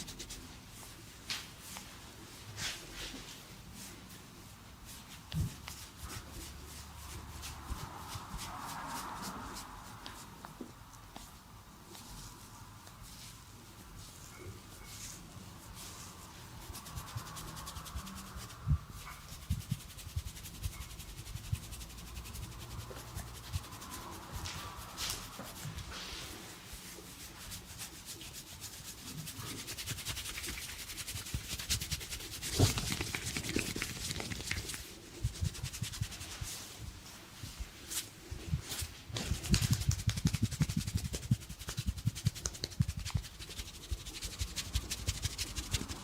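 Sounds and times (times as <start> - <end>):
hands rubbing and kneading skin: 0.0 - 2.0, 2.6 - 46.0.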